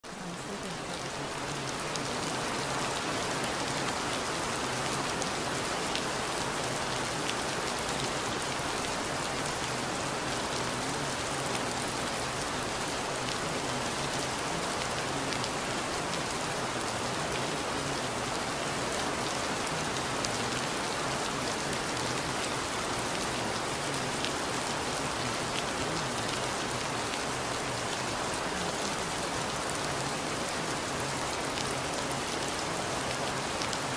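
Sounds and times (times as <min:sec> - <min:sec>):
rain falling on a street: 0:00.0 - 0:33.9.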